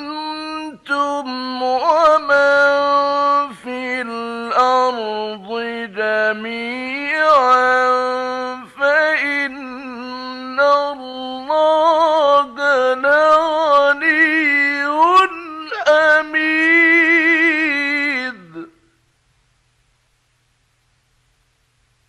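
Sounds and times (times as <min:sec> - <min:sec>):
man chanting recitation: 0:00.0 - 0:18.8.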